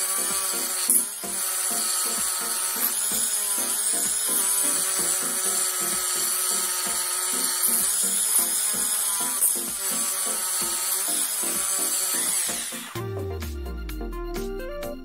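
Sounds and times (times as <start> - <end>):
rotary tool grinding metal whine: 0.0 - 13.0.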